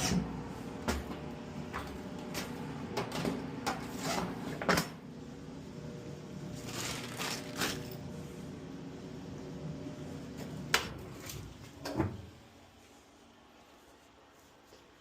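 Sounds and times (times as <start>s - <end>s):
electric dryer humming: 0.0s - 13.3s.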